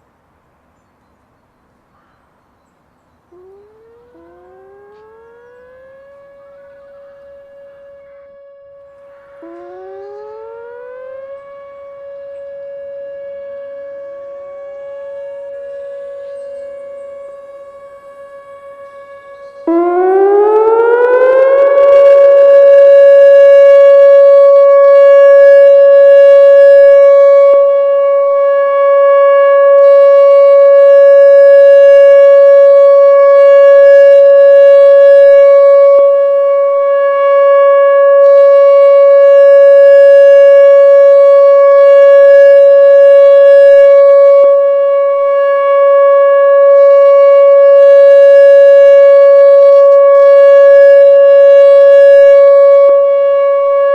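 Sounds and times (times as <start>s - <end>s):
electronic warning siren wailing: 1.2s - 53.9s.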